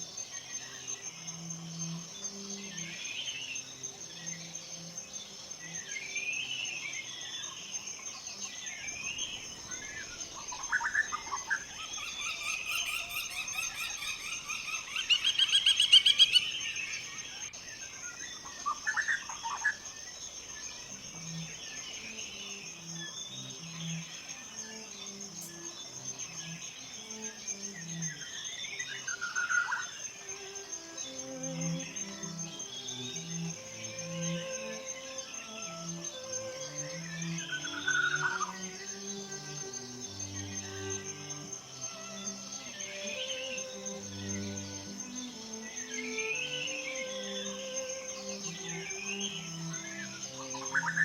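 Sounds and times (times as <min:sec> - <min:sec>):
high-pitched insect trill: 0:00.0 - 0:51.0
songbirds singing: 0:00.0 - 0:51.0.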